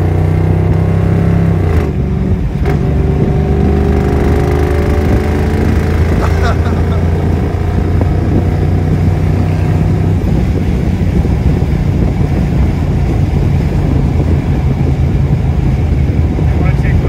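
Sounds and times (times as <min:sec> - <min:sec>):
car engine droning: 0:00.0 - 0:17.0
road noise: 0:00.0 - 0:17.0.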